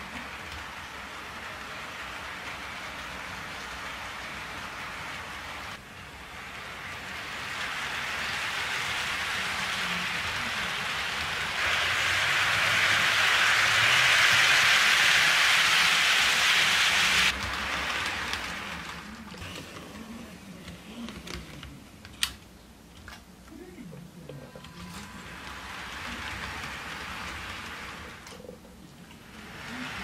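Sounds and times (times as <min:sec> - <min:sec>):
model train wheels hissing on rails: 0:00.0 - 0:20.2, 0:24.8 - 0:28.4, 0:29.1 - 0:30.0.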